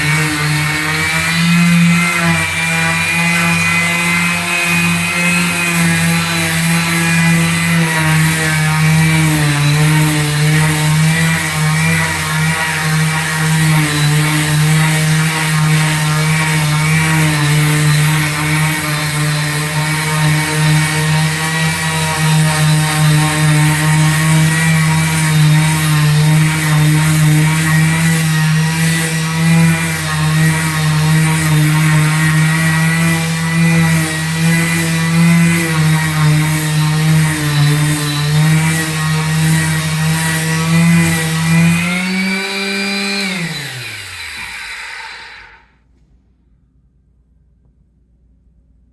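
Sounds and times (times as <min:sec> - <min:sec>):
electric sander buzzing: 0:00.0 - 0:45.8.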